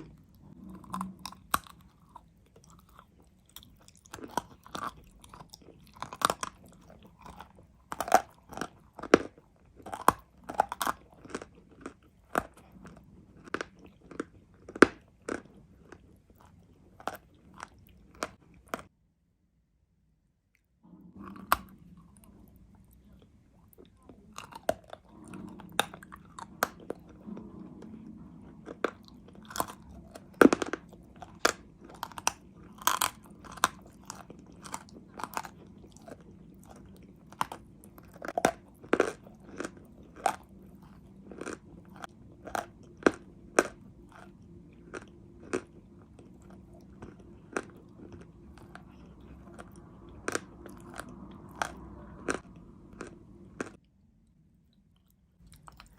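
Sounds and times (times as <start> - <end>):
crunchy clay being chewed: 0.0 - 18.9, 20.6 - 53.9, 54.7 - 55.9.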